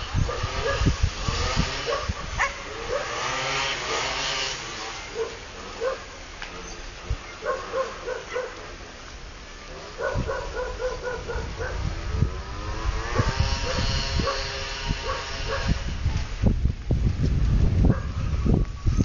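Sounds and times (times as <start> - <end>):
wind gusting against microphone: 0.0 - 19.0.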